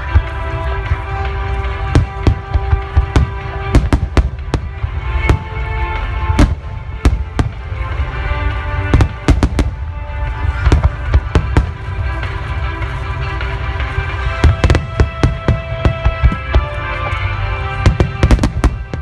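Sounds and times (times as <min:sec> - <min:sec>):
fireworks bangs: 0:00.0 - 0:12.4, 0:14.1 - 0:19.0
music: 0:00.0 - 0:19.0.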